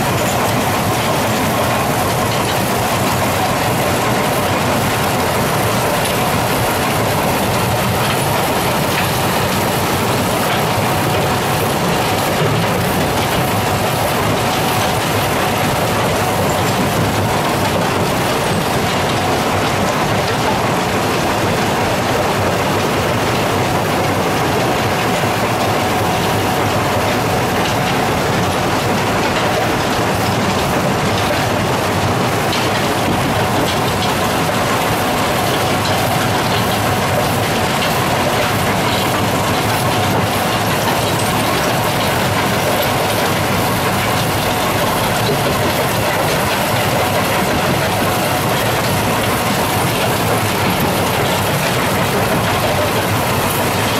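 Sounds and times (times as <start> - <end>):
machinery clatter and rumble: 0.0 - 53.9.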